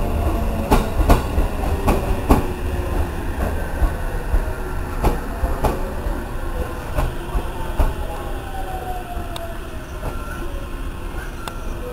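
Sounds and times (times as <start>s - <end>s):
train rumble: 0.0s - 11.9s.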